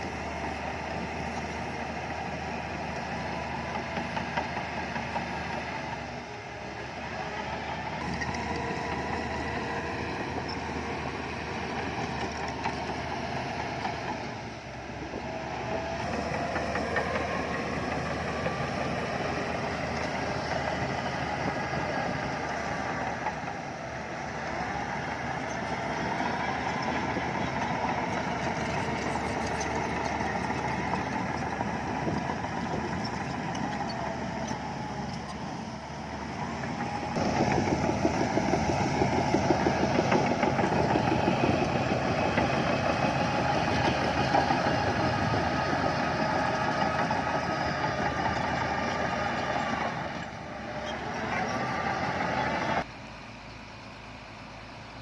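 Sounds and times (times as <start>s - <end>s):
heavy machinery diesel engines: 0.0s - 55.0s.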